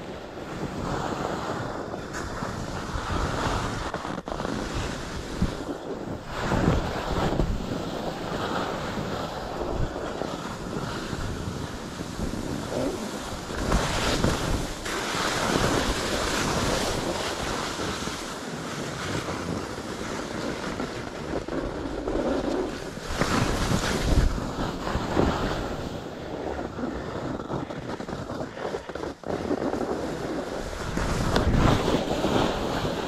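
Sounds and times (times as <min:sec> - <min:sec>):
wind buffeting microphone: 0:00.0 - 0:33.0
skis scraping over snow: 0:00.1 - 0:33.0.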